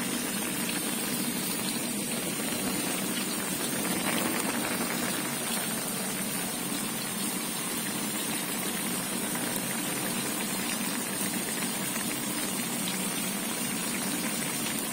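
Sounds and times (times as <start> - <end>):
even hum: 0.0 - 14.0
broth bubbling hiss: 0.0 - 14.9.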